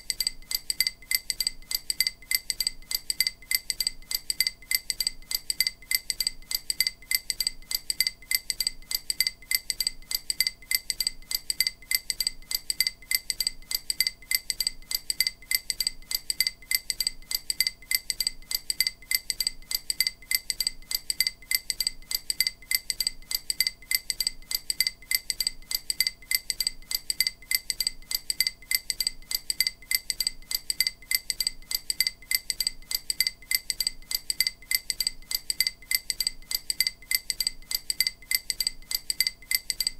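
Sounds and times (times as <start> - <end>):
high chime-like ticks: 0.0 - 39.9.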